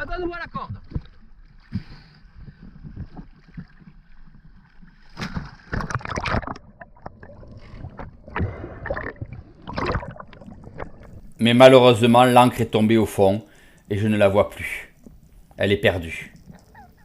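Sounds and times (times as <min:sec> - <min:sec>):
water sloshing: 0:00.0 - 0:17.0
underwater splashing and bubbling: 0:00.7 - 0:17.0.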